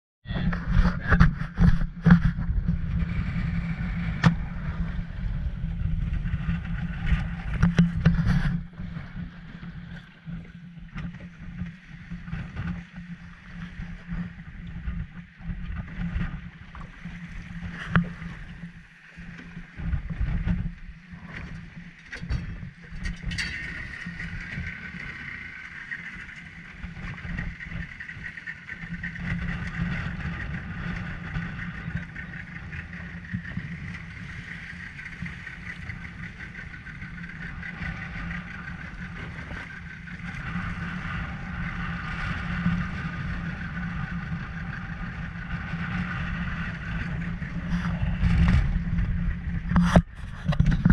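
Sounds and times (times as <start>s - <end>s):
boat through choppy water: 0.2s - 50.9s
outboard motor running: 0.3s - 50.9s.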